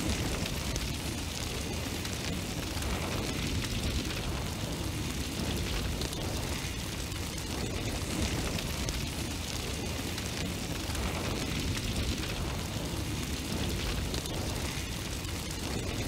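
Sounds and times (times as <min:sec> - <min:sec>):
steady rushing rumbling noise: 0:00.0 - 0:16.0.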